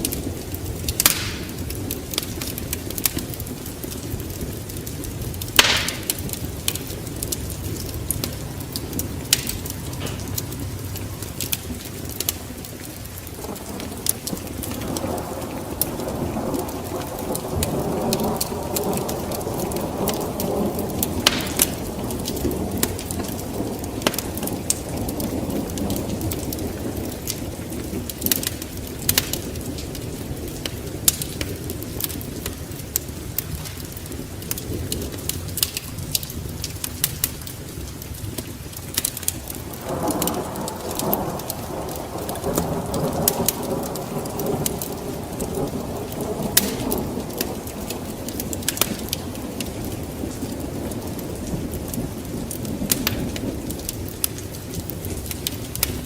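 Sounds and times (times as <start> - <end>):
rolling thunder rumble: 0.0 - 56.0
steady rain: 0.0 - 56.0
wood fire crackling: 0.0 - 56.0.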